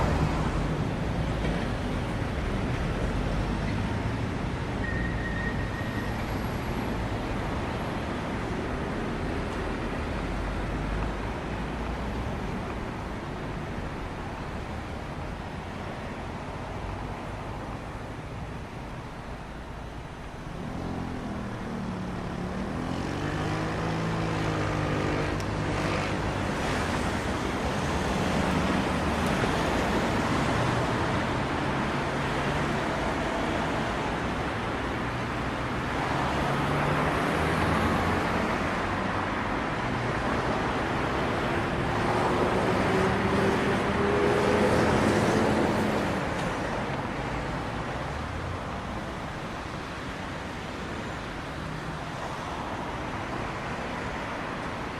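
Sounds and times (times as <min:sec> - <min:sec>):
road traffic rush: 0:00.0 - 0:54.9.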